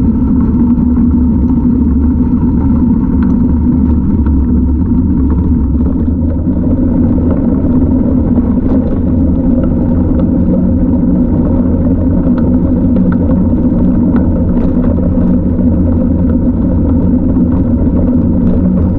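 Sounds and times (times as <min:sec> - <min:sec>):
wind and road noise rumble: 0:00.0 - 0:18.9.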